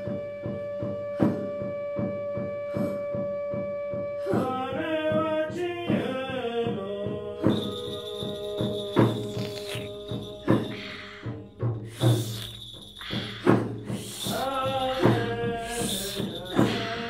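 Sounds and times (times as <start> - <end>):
steady drum pulse: 0.0 - 17.0.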